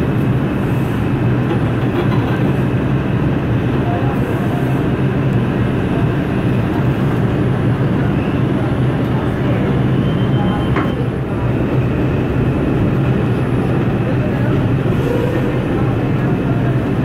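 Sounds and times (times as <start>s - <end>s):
subway train wheels on rail: 0.0s - 17.0s.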